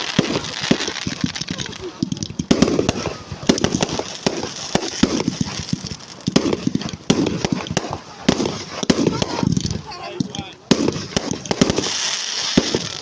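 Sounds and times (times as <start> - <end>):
crackling hiss: 0.0 - 13.0
fireworks bangs and cracks: 0.0 - 13.0.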